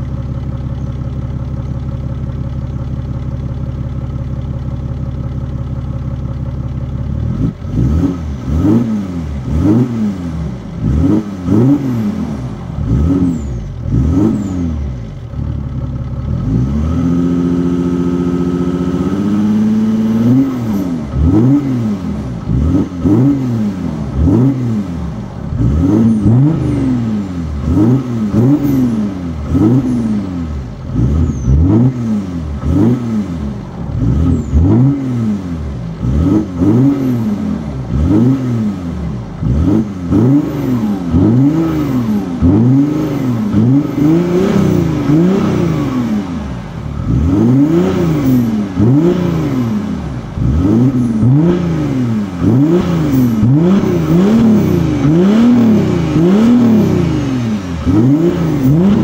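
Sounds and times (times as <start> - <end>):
diesel engine revving: 6.8 - 59.0.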